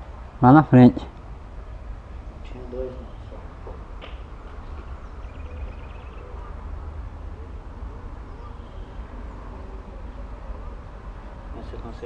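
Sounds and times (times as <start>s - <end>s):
faint distant voices: 2.2s - 12.0s.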